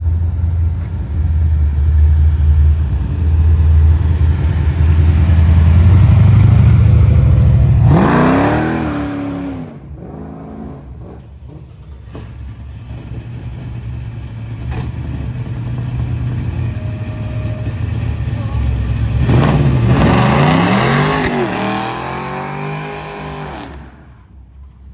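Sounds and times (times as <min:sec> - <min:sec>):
car engine rumbling and revving: 0:00.0 - 0:24.9.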